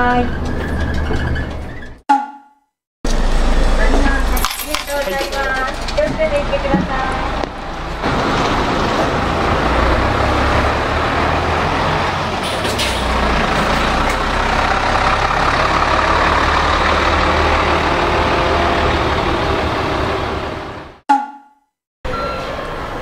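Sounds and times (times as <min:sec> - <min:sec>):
bus diesel engine: 0:03.1 - 0:21.0, 0:22.1 - 0:23.0.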